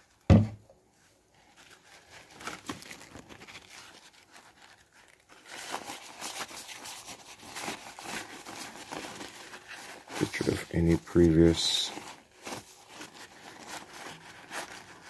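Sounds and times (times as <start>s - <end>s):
paper towel wiping a screen: 1.0s - 15.0s.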